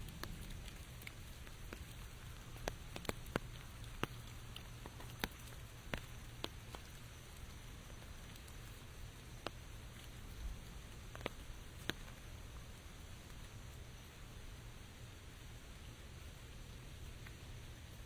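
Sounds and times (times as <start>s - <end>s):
sharp taps of raindrops: 0.0s - 14.2s, 17.0s - 18.0s
rain falling: 0.0s - 18.0s.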